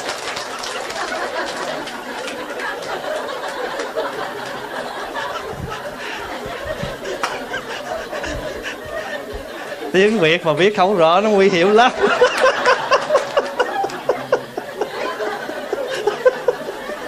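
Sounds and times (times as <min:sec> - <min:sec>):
audience laughing: 0:00.0 - 0:17.0
murmured talk: 0:01.0 - 0:17.0.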